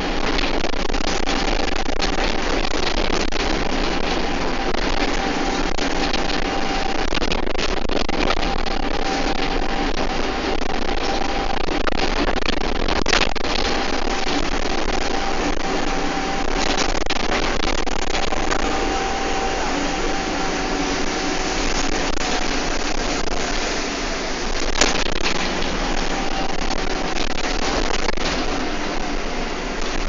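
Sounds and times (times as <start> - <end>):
bus engine and road noise: 0.0 - 30.0
thin steady whine: 0.0 - 30.0.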